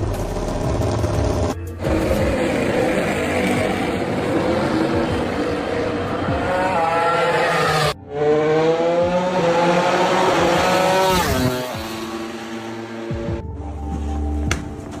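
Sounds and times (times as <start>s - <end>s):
racing motorcycle engine accelerating: 0.0s - 13.4s.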